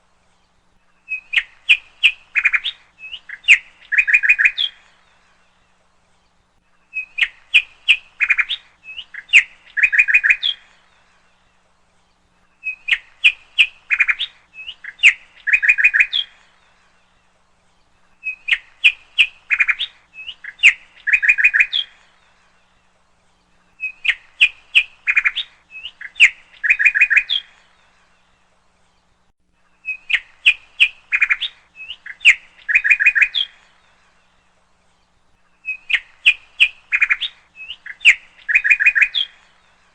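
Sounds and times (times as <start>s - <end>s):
bird song with chirps and trills: 0.0s - 39.9s.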